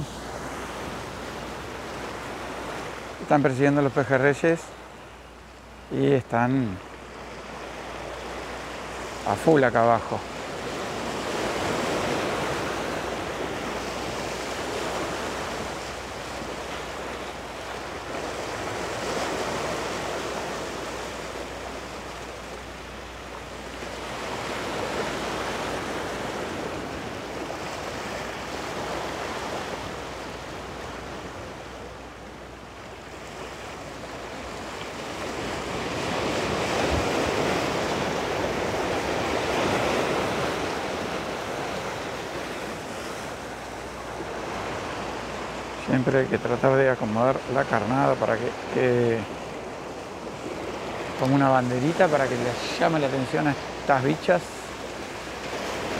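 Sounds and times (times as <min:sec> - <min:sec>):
sea waves washing against rocks: 0:06.0 - 0:55.9.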